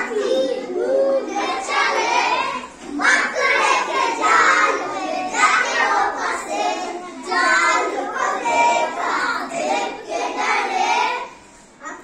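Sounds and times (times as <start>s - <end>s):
children singing in chorus: 0.0s - 11.4s.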